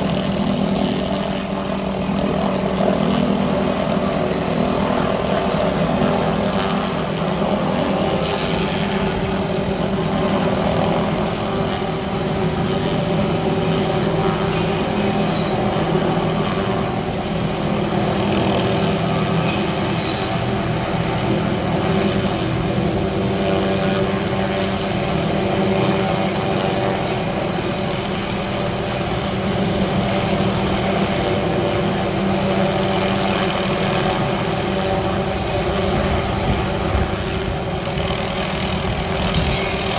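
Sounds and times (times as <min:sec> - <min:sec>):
helicopter engine and rotor hum: 0:00.0 - 0:39.9.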